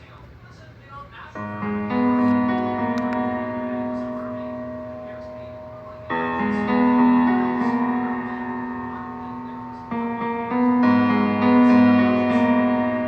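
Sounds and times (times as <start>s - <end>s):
sustained instrumental chords: 1.4s - 13.0s.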